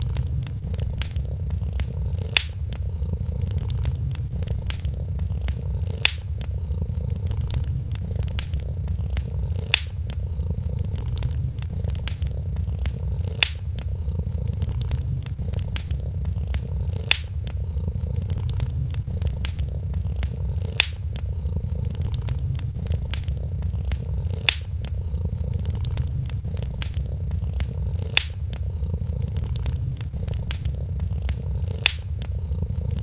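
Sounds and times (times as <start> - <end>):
loud fire pops: 0.0 - 10.2, 10.8 - 19.6, 20.2 - 32.9
cat purring: 0.0 - 33.0
wood fire crackling: 0.0 - 33.0.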